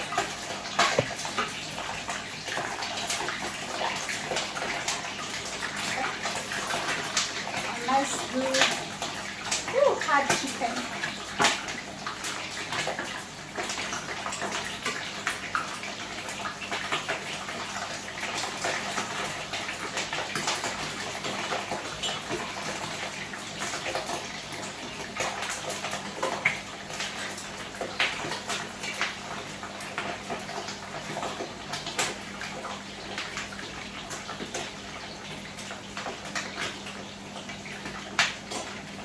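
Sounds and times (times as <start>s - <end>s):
chicken sizzling in hot oil: 0.0s - 39.0s.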